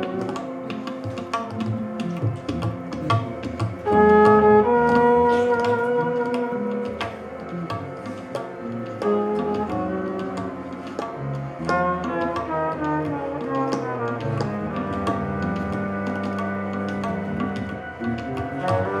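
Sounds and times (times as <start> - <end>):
jazz ensemble playing: 0.0 - 19.0
percussion strikes: 0.0 - 19.0.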